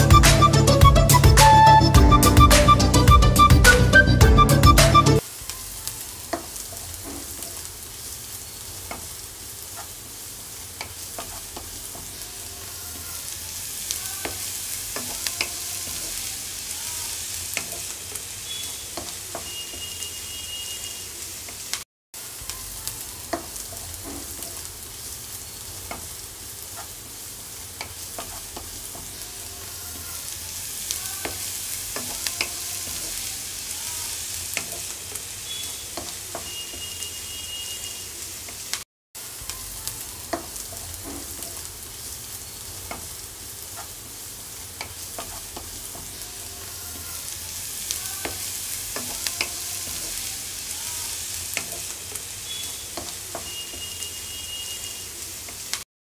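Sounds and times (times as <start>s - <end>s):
chillies and garlic sizzling in oil: 0.0s - 55.9s.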